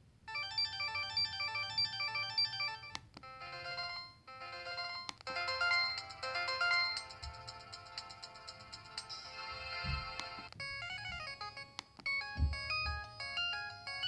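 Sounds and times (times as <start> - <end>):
synthesized ringtone melody: 0.3 - 14.0.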